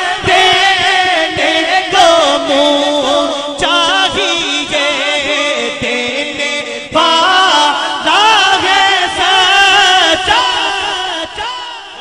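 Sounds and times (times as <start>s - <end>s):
man chanting devotional verse: 0.0s - 12.0s.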